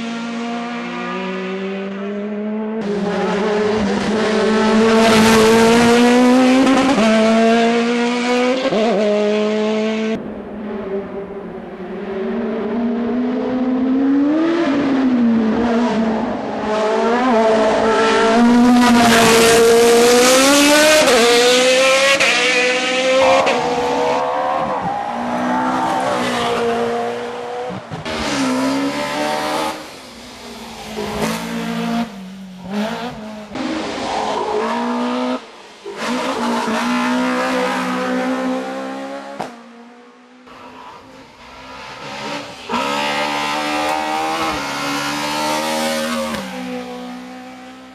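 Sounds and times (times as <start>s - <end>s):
racing car engines at full throttle: 0.0s - 47.9s.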